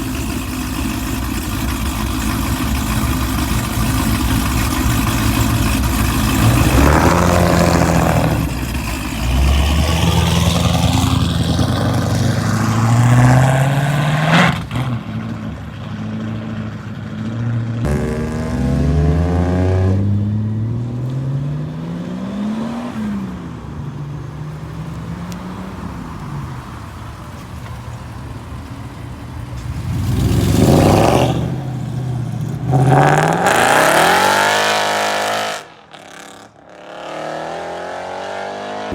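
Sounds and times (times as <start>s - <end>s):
car engines accelerating hard: 0.0s - 38.9s.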